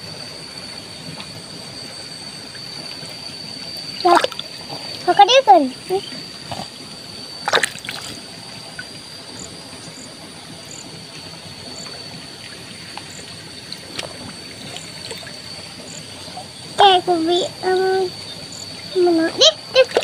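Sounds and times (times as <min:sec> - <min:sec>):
water trickling and lapping: 0:02.3 - 0:10.0, 0:11.0 - 0:20.0.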